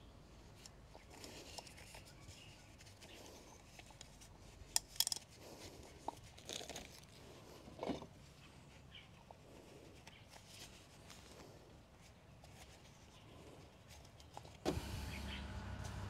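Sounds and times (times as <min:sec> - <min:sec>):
faint rubbing and rustling: 0:00.3 - 0:16.0.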